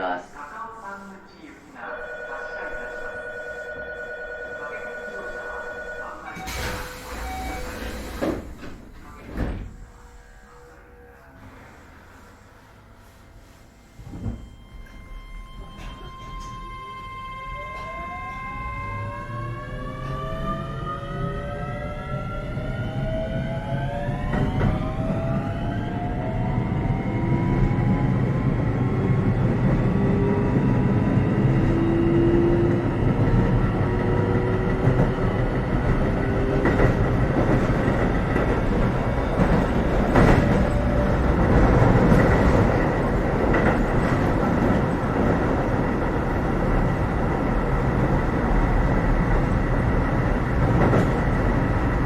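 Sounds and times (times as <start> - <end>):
train running noise: 5.5 - 52.0.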